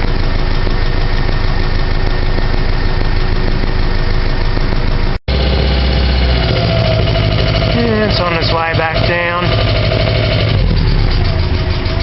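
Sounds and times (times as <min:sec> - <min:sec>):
car engine idling: 0:00.0 - 0:12.0
radiator fans running: 0:00.0 - 0:12.0.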